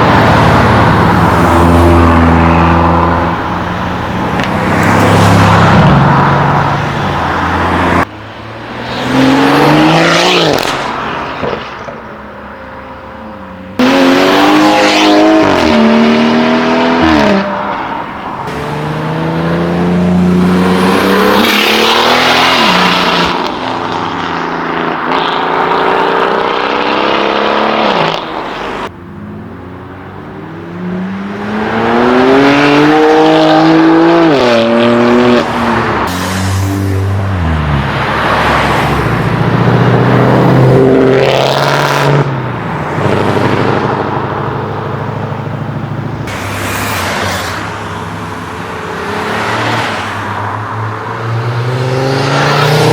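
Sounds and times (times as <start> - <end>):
cars accelerating hard: 0.0 - 12.0, 13.7 - 52.9.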